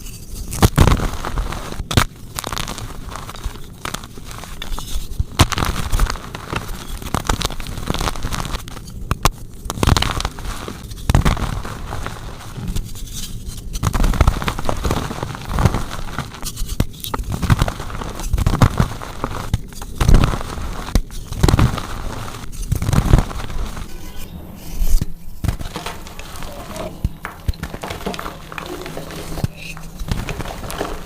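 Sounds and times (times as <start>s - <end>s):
chalk being crushed: 0.0s - 31.0s.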